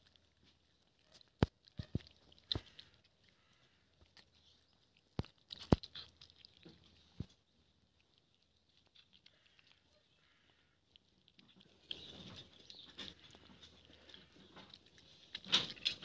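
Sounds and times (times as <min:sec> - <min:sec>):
cat chewing and crunching: 0:00.0 - 0:16.0.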